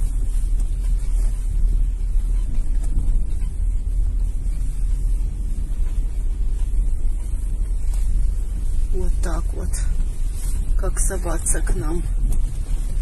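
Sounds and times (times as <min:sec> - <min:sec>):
car driving rumble from inside: 0:00.0 - 0:13.0.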